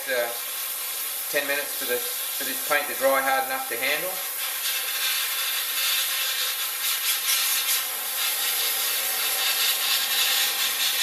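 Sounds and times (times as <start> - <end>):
airbrush hissing: 0.0 - 11.0.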